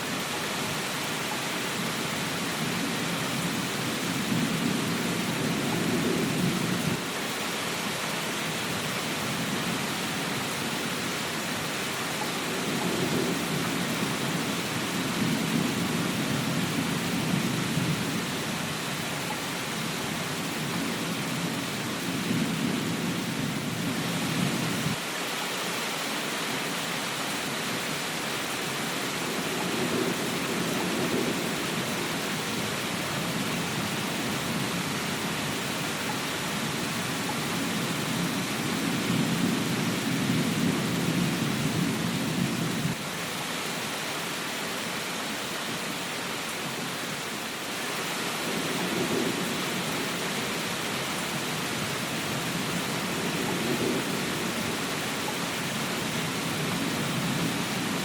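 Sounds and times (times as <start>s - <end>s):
rain hiss: 0.0s - 58.0s.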